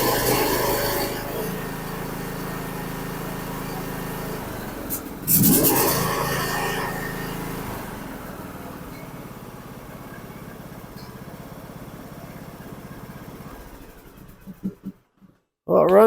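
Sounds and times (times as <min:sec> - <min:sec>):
riding mower engine running: 0:00.0 - 0:15.1.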